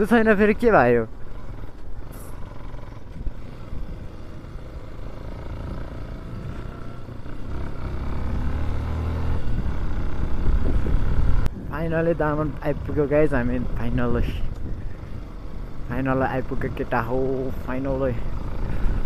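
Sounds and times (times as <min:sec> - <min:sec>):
motorcycle engine rumble: 0:00.0 - 0:19.0.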